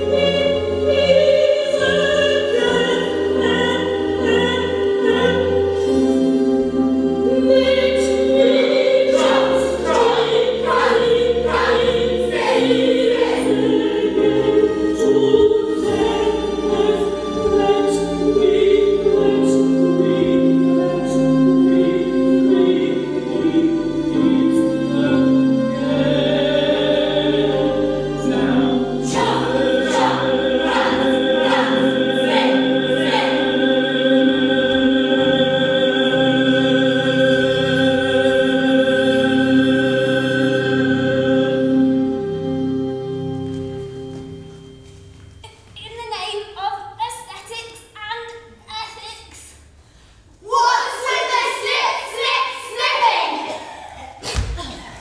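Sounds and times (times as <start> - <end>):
choir singing held notes: 0.0 - 44.9, 50.5 - 54.2.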